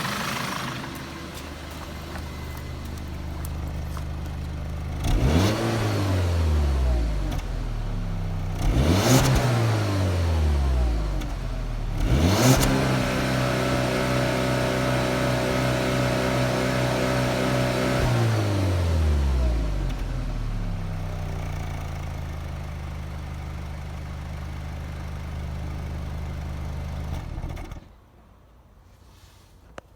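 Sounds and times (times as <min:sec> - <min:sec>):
car engine revving and idling: 0:00.0 - 0:27.8.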